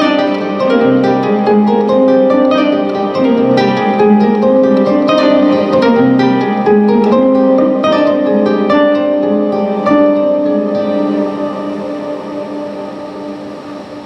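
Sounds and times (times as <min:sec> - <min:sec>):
plucked string instrument: 0:00.0 - 0:14.0.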